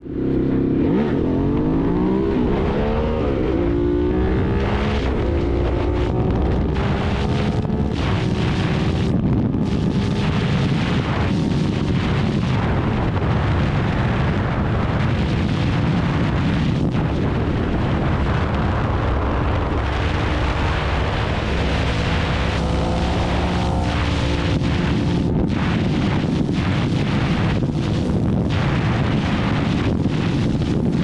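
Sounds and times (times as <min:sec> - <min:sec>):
motorcycle engine at speed: 0:00.0 - 0:31.0
wind rush on microphone: 0:00.0 - 0:31.0.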